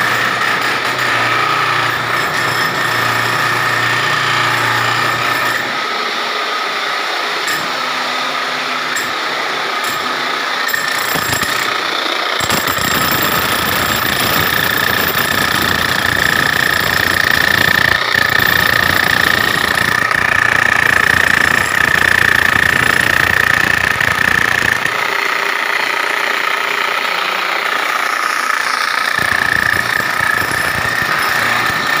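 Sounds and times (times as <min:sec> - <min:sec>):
demolition hammer pounding masonry: 0:00.0 - 0:25.4, 0:26.2 - 0:32.0.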